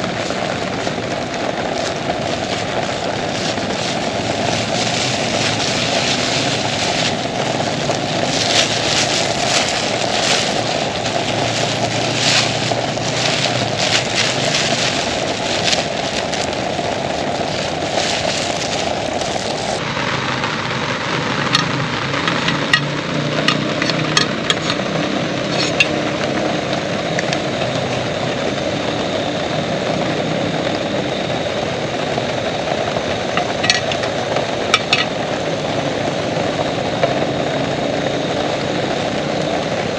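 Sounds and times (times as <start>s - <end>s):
heavy rain falling: 0.0s - 39.9s
sharp raindrop hits: 0.0s - 39.9s.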